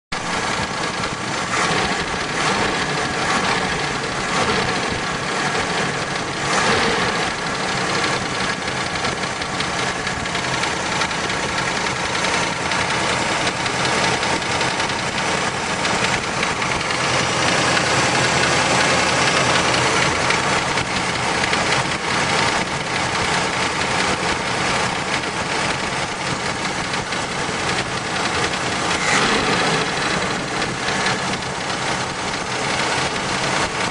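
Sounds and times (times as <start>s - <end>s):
engine running with a knock: 0.2s - 33.9s.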